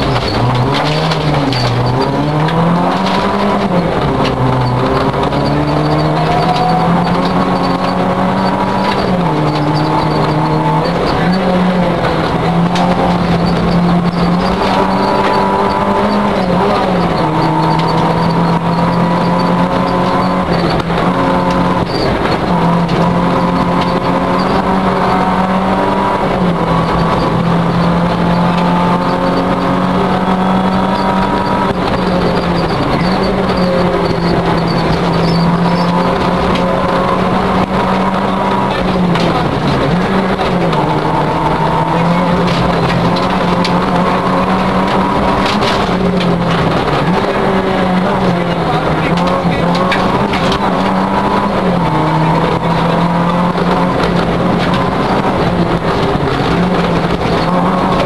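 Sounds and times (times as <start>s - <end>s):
car engine revving: 0.0s - 58.0s
road and tyre noise: 0.0s - 58.0s.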